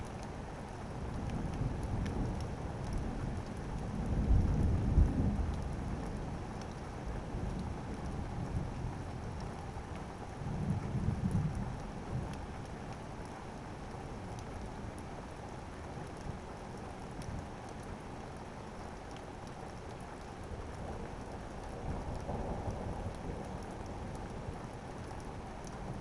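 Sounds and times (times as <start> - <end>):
raindrops ticking: 0.0 - 26.0
steady rain falling: 0.0 - 26.0.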